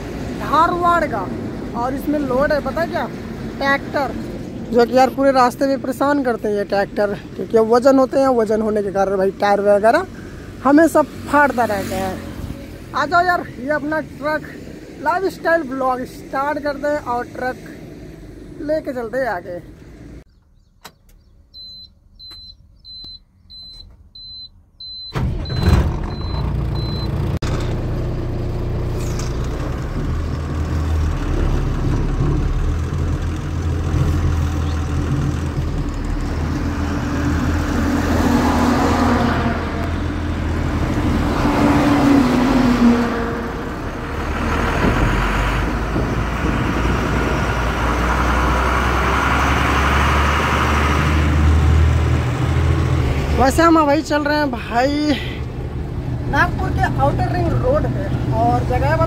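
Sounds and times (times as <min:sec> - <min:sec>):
diesel truck engine: 0:00.0 - 0:59.0.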